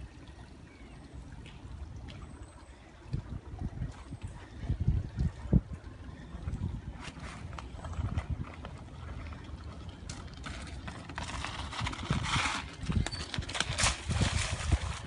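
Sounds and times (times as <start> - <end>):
low rumble on microphone: 1.2 - 15.0.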